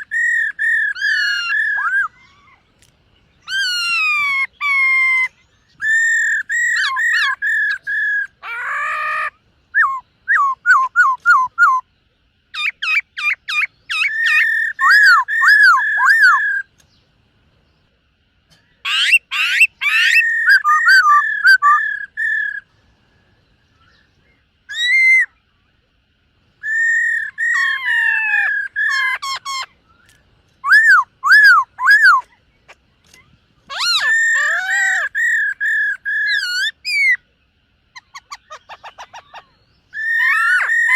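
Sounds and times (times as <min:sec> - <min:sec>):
bird singing whistled phrases: 0:00.0 - 0:02.6, 0:03.4 - 0:11.9, 0:12.6 - 0:16.7, 0:18.8 - 0:22.7, 0:23.8 - 0:25.5, 0:26.6 - 0:32.4, 0:33.1 - 0:37.2, 0:38.0 - 0:40.9.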